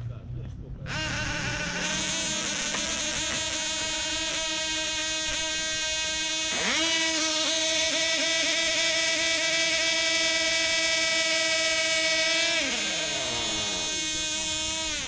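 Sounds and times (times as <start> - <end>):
model aircraft engine revving: 0.8 - 15.0.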